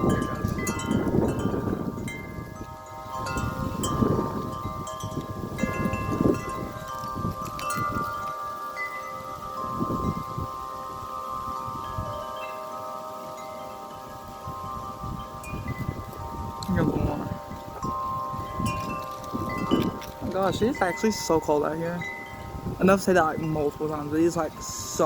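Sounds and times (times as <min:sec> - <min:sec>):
wind buffeting microphone: 0:00.0 - 0:25.0
wind chimes ringing: 0:00.0 - 0:25.0.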